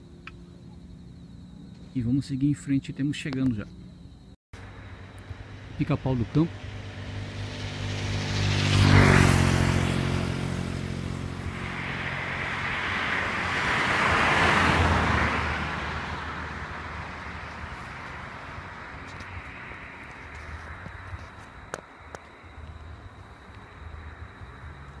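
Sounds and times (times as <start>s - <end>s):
vehicle engine hum: 2.9s - 25.0s.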